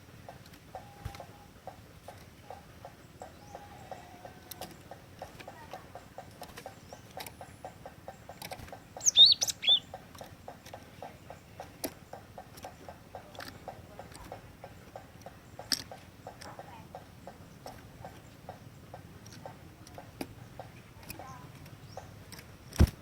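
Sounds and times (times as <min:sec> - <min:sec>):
rapid steady ticking: 0:00.0 - 0:22.8
bird sharp high calls: 0:02.4 - 0:22.2.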